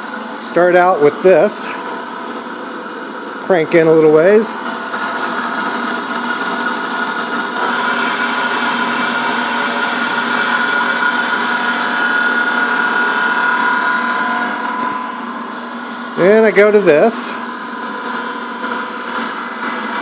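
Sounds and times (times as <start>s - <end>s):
milling machine spindle whine: 0.0s - 20.0s
end mill cutting wood: 3.4s - 20.0s.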